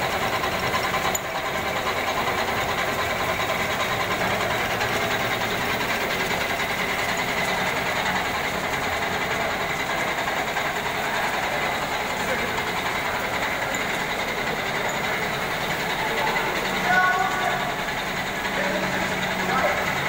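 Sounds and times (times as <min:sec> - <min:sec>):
slitting machine running: 0:00.0 - 0:20.0.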